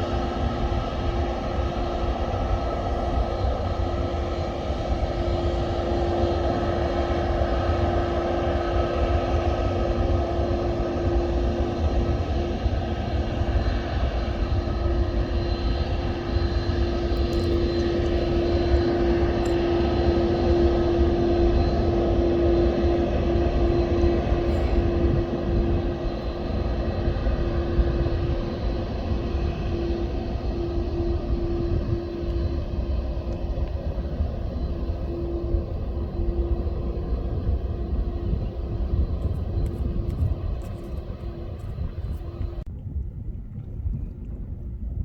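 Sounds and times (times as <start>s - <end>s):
airplane engines running: 0.0s - 45.0s.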